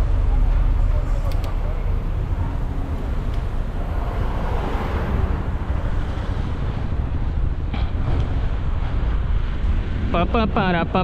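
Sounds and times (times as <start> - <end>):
road and traffic noise: 0.0 - 11.0
wind buffeting microphone: 0.0 - 11.0.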